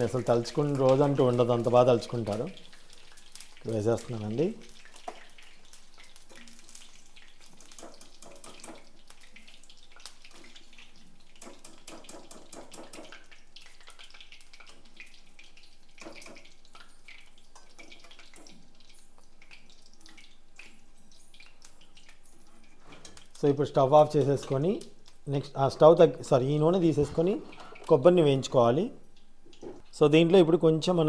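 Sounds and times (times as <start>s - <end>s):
food sizzling in hot oil: 0.0s - 30.5s.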